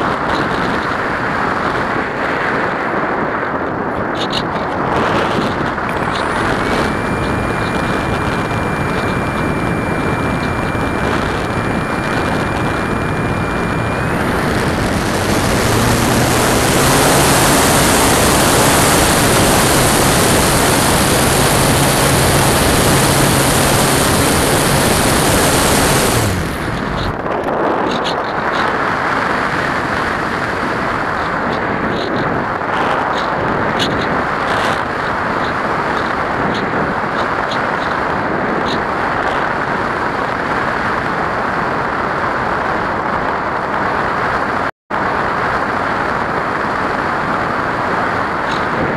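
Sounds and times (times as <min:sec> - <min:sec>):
electric motor high whine: 0:00.0 - 0:41.3
wind noise over airframe: 0:00.0 - 0:48.9.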